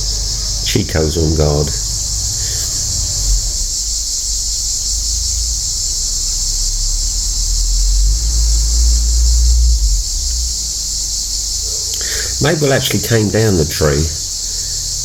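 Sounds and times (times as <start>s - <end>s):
low rumble: 0.0s - 12.6s
cicadas hissing: 0.0s - 15.0s.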